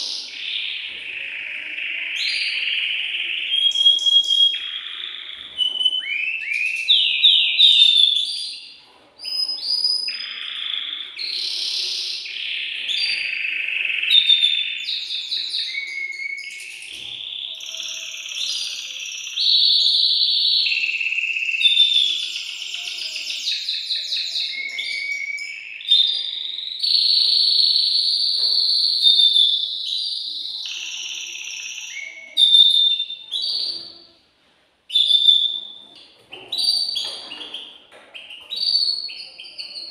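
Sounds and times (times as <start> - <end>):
canary singing trills: 0.0 - 34.2, 34.9 - 39.9.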